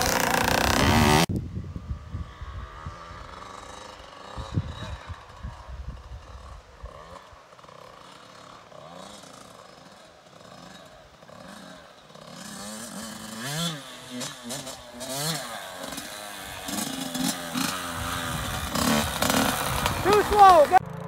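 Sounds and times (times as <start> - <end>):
dirt bike engine revving: 0.0 - 1.3, 2.2 - 21.0.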